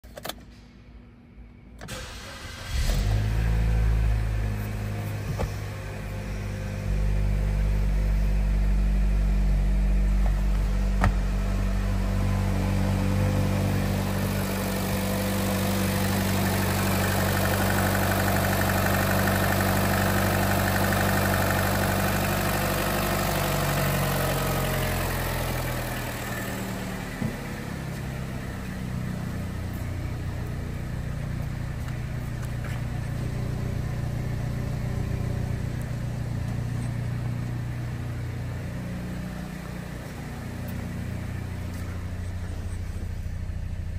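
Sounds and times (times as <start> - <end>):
car engine idling: 2.0 - 43.9.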